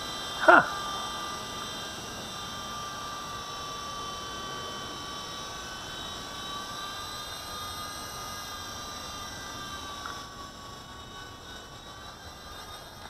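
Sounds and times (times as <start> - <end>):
rc helicopter rotor whining: 0.0 - 13.0.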